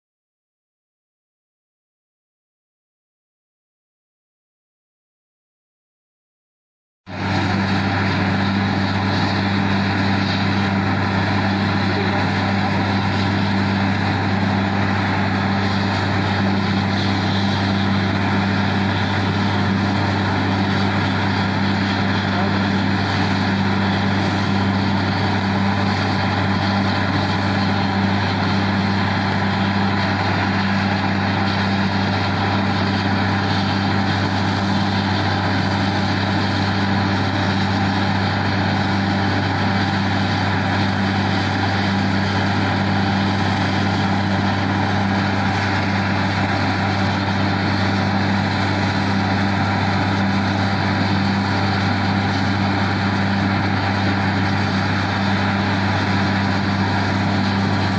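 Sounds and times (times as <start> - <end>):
drilling rig engine drone: 7.1 - 57.9.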